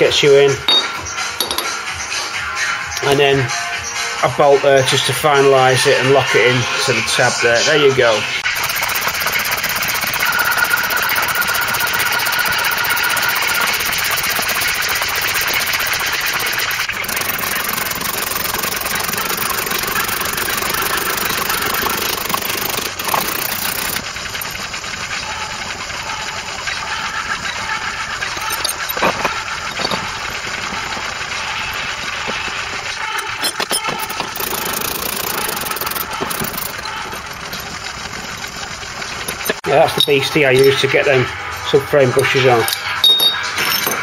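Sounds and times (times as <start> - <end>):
mechanical running noise: 8.3 - 44.0.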